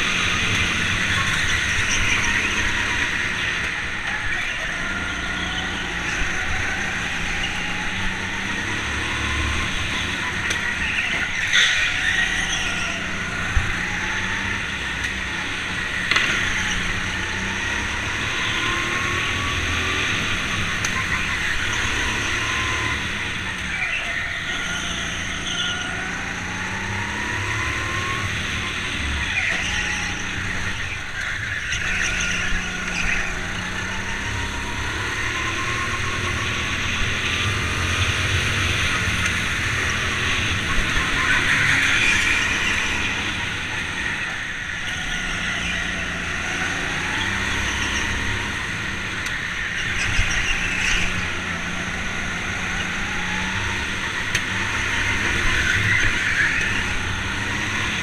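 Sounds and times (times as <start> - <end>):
go-kart motor revving: 0.0 - 58.0.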